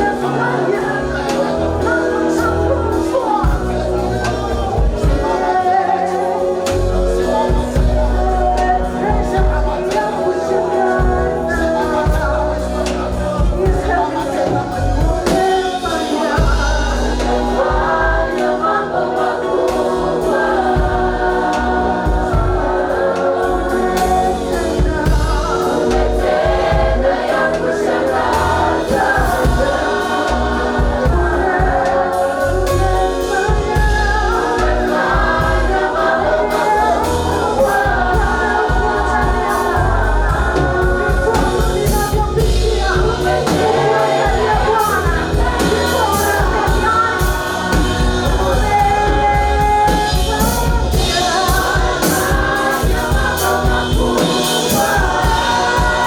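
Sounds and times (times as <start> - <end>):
choir singing gospel music: 0.0 - 56.0
instrumental accompaniment: 0.0 - 56.0
steady beat: 11.0 - 56.0.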